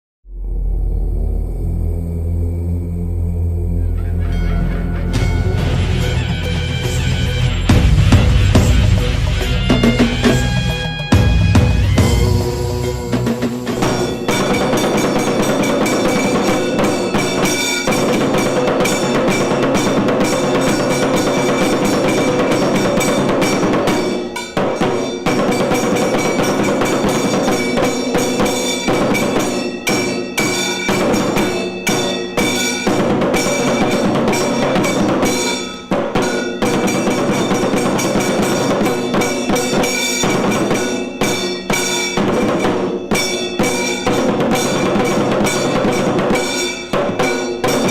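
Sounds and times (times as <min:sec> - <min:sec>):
sustained ringing tones: 0:00.3 - 0:47.9
loud dense drumming: 0:00.4 - 0:47.9.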